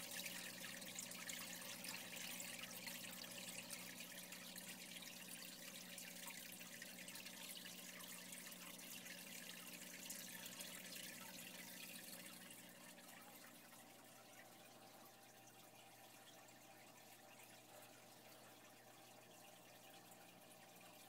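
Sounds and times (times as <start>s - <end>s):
running and dripping water: 0.0s - 21.0s.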